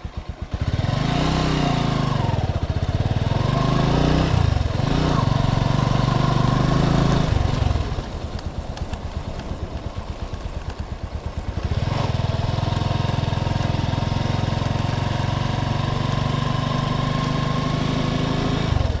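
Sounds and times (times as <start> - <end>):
vehicle engine idling and revving: 0.0 - 19.0.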